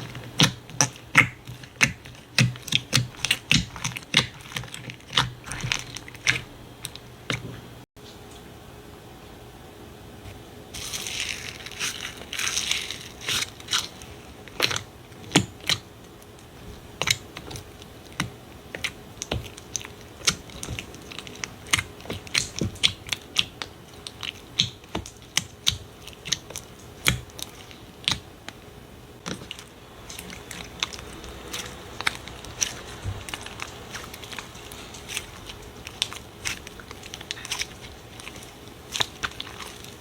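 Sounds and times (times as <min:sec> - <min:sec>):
slime crackly rustle: 0:00.0 - 0:07.5, 0:10.7 - 0:40.0.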